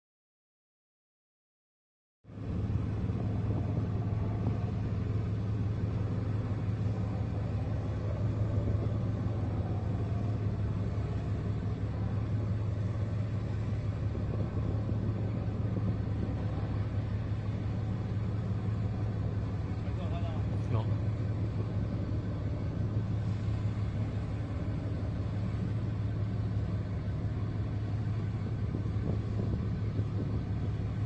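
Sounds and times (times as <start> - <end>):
boat engine rumbling: 2.3 - 31.0.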